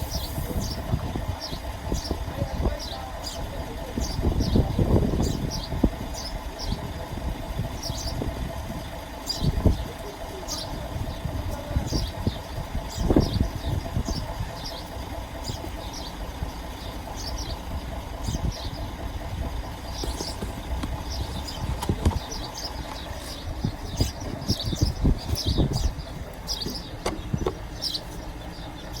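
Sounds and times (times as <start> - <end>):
backhoe engine idling: 0.0 - 29.0
birds chirping: 0.0 - 29.0.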